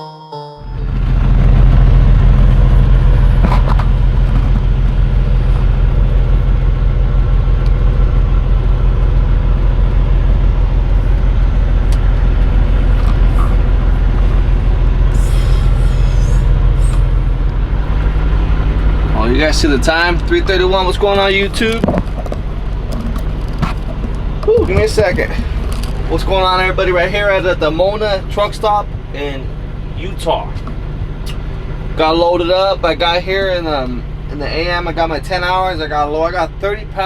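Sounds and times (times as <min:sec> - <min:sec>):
truck diesel engine idling: 0:00.6 - 0:37.0.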